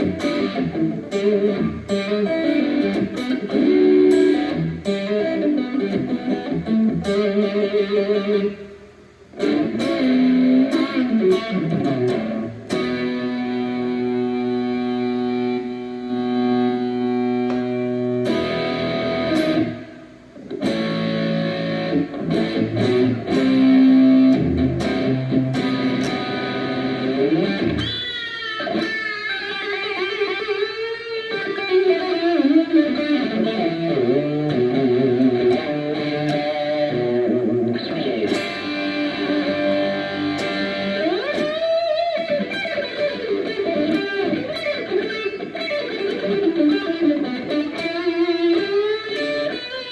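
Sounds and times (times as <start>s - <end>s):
electric guitar with effects: 0.0s - 49.9s.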